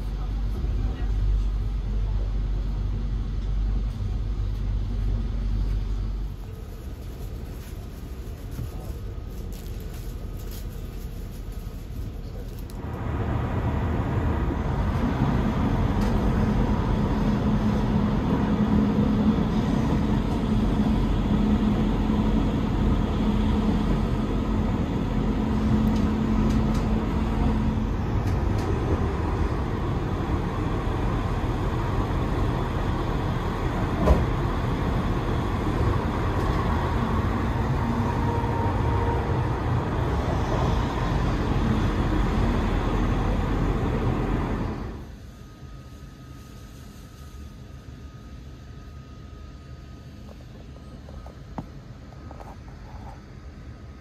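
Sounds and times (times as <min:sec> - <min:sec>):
train coach rolling on track: 0:00.0 - 0:45.2.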